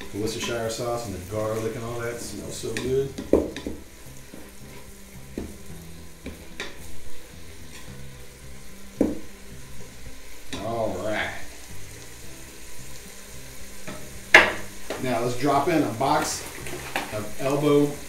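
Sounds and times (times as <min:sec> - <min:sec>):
ground beef sizzling: 0:00.0 - 0:18.0.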